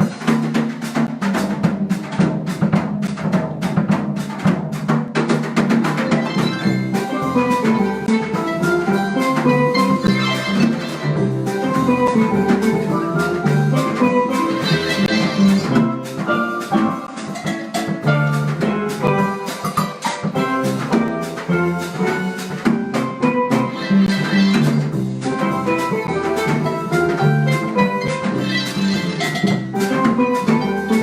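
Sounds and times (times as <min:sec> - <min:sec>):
percussion beat: 0:00.0 - 0:31.0
harp jazz ensemble playing: 0:05.5 - 0:31.0.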